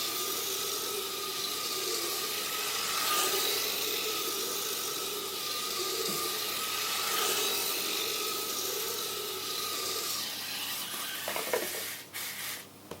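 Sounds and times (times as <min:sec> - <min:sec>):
electric motors whining: 0:00.0 - 0:12.1.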